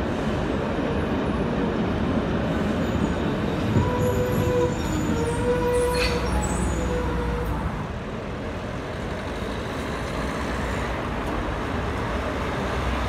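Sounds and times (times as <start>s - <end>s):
road traffic rumble: 0.0s - 13.0s
tram passing with whine: 0.0s - 13.0s.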